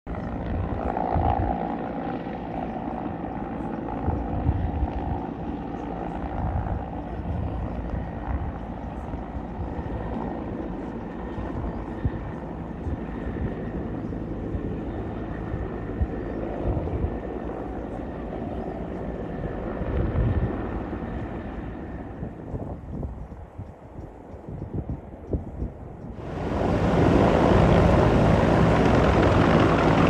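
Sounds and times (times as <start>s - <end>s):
helicopter overhead: 0.1s - 30.0s.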